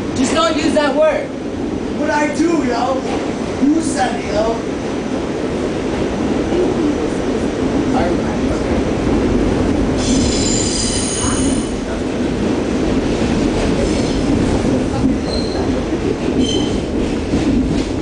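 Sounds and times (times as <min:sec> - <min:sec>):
rumble of train wheels on track: 0:00.0 - 0:18.0.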